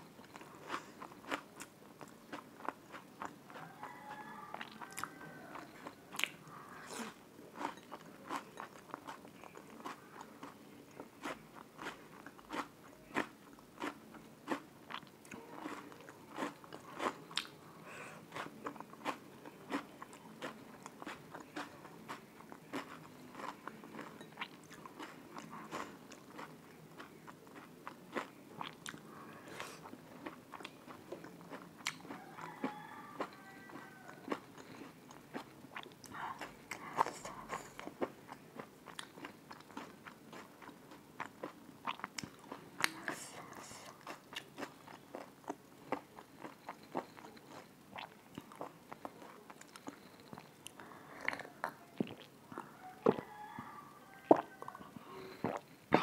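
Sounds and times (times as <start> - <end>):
chewing and lip-smacking: 0.0 - 56.0.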